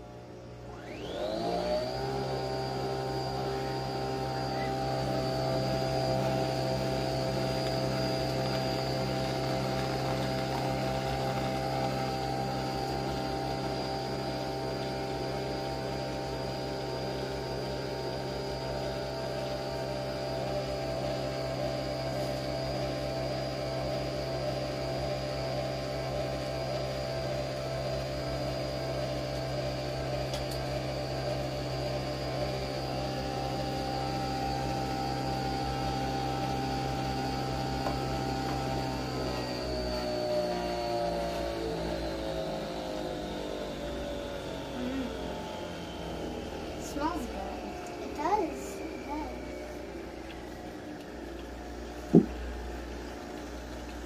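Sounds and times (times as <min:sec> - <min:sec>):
coffee machine humming: 0:00.0 - 0:54.0.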